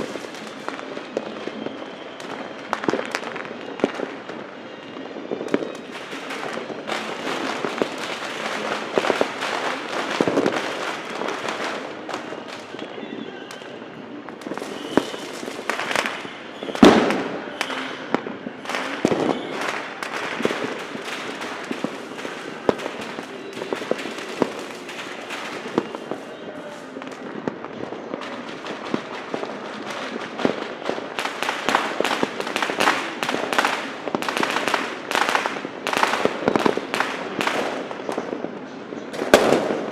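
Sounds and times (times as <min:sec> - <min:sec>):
firework bangs: 0:00.0 - 0:39.9
fireworks crackling and popping: 0:00.0 - 0:39.9.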